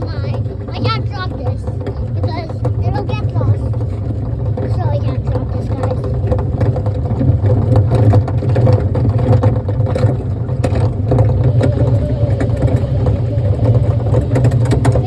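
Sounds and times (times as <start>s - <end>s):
ride-on train motor drone: 0.0s - 15.0s
train clicks and rattles: 0.0s - 15.0s.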